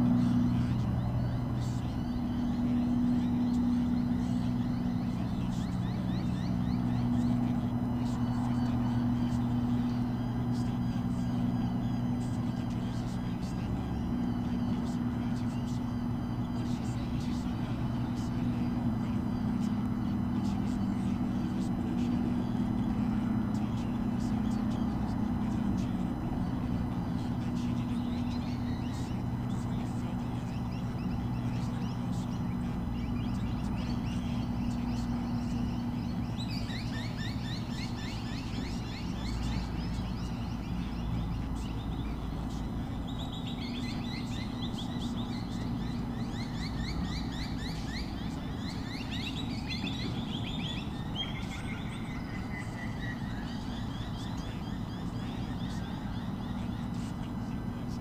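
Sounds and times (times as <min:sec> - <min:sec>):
bird chirping in rapid runs: 0:00.0 - 0:58.0
low engine-like hum: 0:00.0 - 0:58.0.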